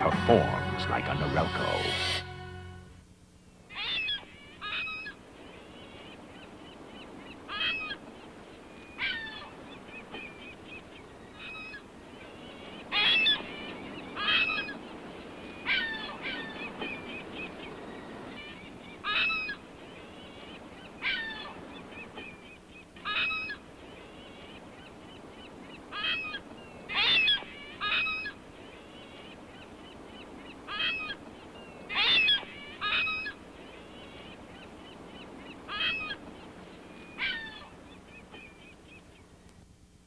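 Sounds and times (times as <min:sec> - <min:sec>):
faint steady hiss: 0:00.0 - 0:40.0
short bird-like calls: 0:03.7 - 0:08.0, 0:08.8 - 0:39.2.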